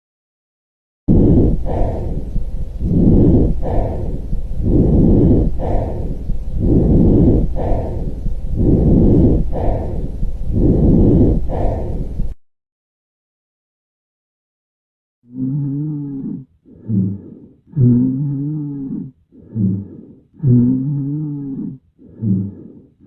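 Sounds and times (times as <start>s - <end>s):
breathing through stethoscope: 1.1s - 12.4s, 15.3s - 23.0s.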